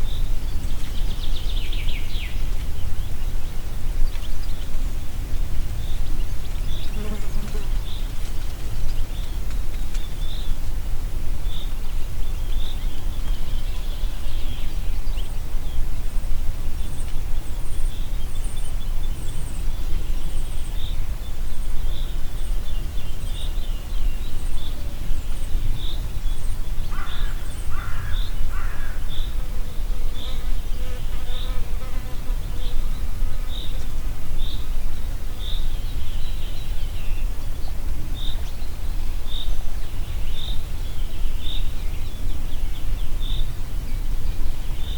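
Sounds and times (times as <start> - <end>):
wind blowing through trees: 0.0 - 44.9.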